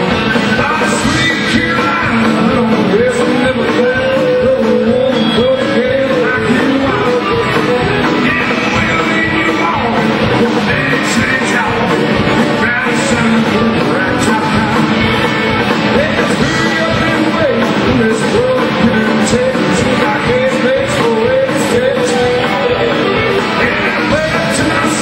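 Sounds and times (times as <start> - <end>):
country-rock band playing: 0.0 - 25.0
sliding guitar melody: 0.0 - 25.0.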